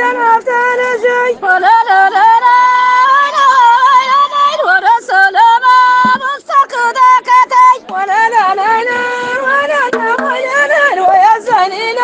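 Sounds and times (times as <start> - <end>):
woman singing folk song: 0.0 - 12.0.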